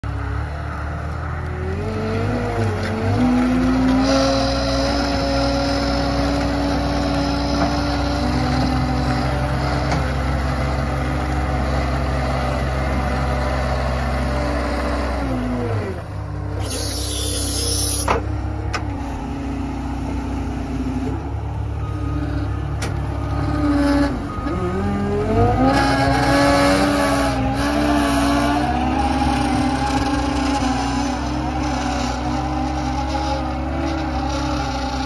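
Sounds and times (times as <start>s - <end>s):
diesel engine revving: 0.0s - 35.0s.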